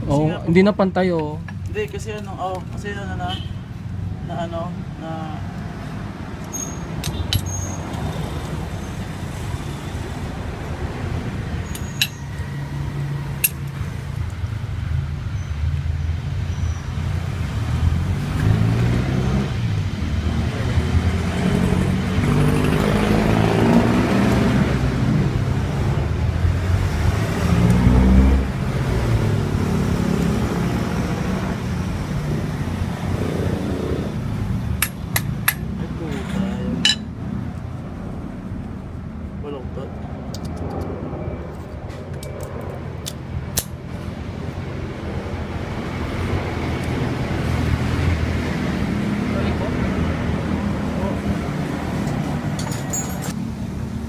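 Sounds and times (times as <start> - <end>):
vehicles passing by: 0.0 - 54.0.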